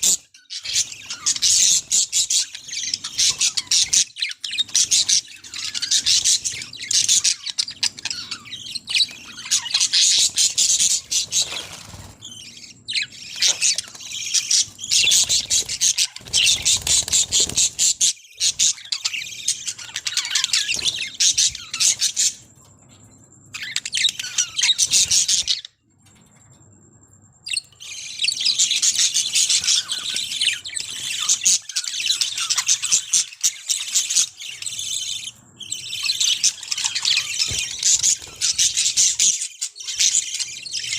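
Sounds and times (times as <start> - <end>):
flock of birds chattering: 0.0 - 26.3, 27.5 - 40.9.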